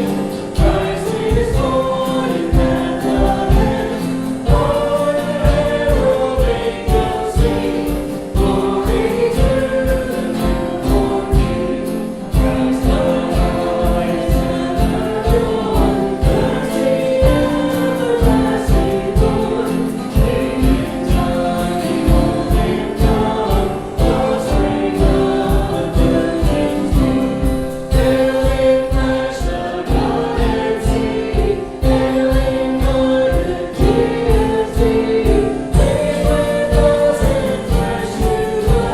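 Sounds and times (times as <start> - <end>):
accompaniment with steady beat: 0.0 - 38.9
choir singing gospel song: 0.0 - 38.9.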